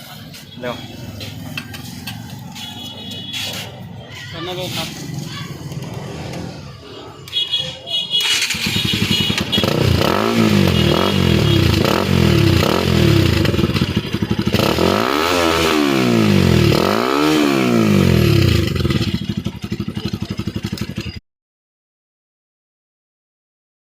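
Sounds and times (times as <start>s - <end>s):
motorcycle engine revving: 0.8s - 4.0s, 4.6s - 7.4s, 8.0s - 21.2s.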